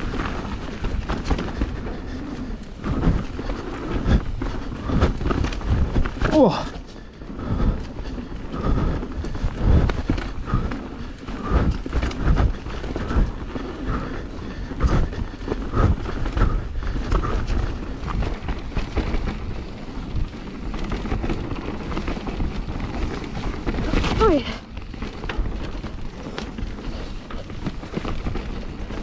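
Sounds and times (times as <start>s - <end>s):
bike rumble on rough trail: 0.0s - 29.0s.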